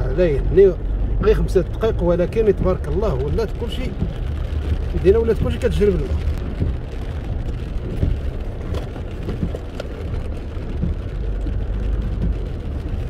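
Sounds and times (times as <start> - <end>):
car engine and wet tyres rumbling: 0.0 - 13.0
rain tapping on windscreen: 0.0 - 13.0.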